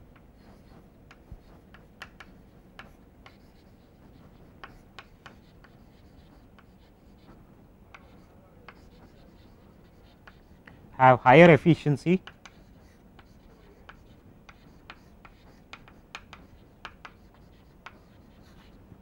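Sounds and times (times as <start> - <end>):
pen scratching on paper: 0.2 - 10.6, 12.2 - 19.0.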